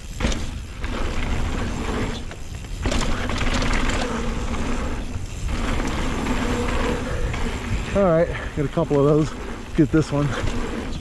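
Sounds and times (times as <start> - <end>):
bike rattling over bumps: 0.0 - 11.0
bike tyres rolling on dirt: 0.0 - 11.0
wind rushing over microphone: 0.0 - 11.0.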